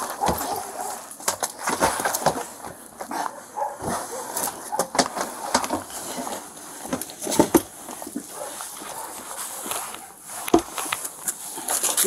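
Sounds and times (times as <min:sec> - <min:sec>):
pole knocking and scraping wood: 0:00.0 - 0:12.0.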